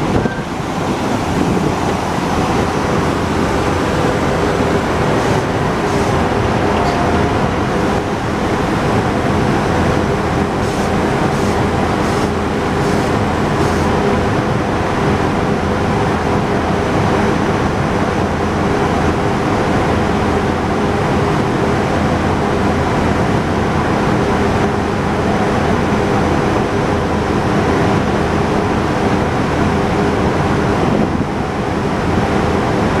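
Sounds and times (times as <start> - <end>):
constant rushing noise: 0.0 - 33.0
electric railcar humming: 0.0 - 33.0.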